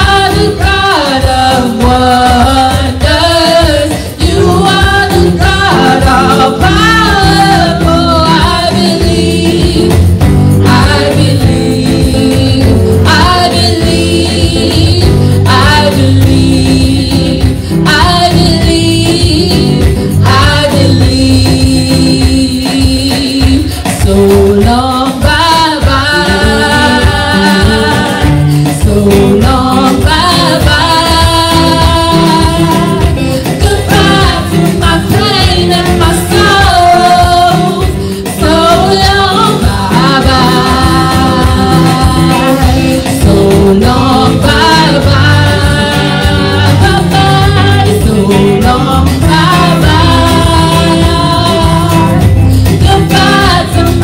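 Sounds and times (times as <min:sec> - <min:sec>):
instrumental backing: 0:00.0 - 0:54.0
women singing gospel: 0:00.0 - 0:54.0.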